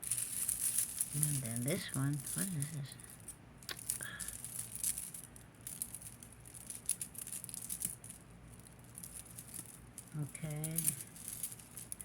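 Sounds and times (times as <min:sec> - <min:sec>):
jewelry chains and beads rattling: 0:00.0 - 0:12.0.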